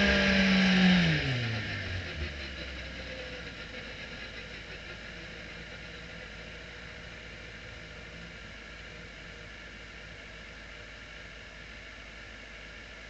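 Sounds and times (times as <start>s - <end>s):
race car engine idling: 0.0s - 13.0s.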